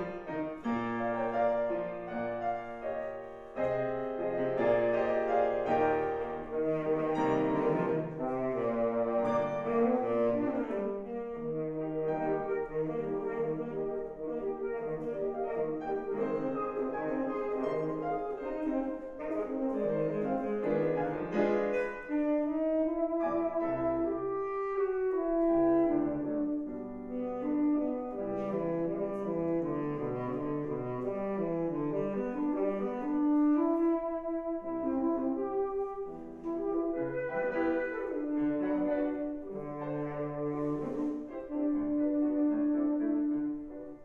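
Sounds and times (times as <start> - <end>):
piano: 0.0 - 44.0
tenor saxophone melody: 0.0 - 44.0.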